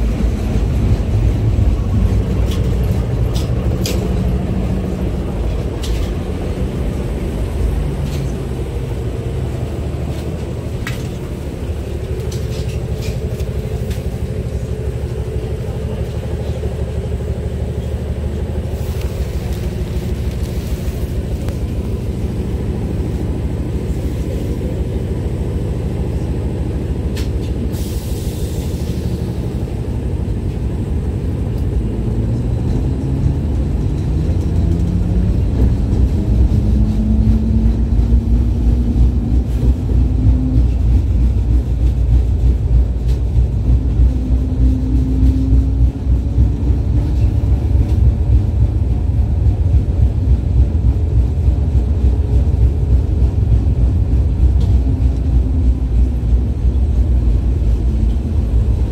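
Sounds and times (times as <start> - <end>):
tram wheels rumbling on rails: 0.0 - 58.9.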